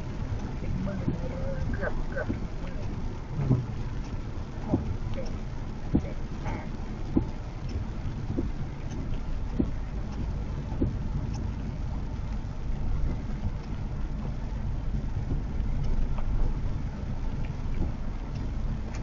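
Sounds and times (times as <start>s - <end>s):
road and tyre noise inside car: 0.0s - 19.0s.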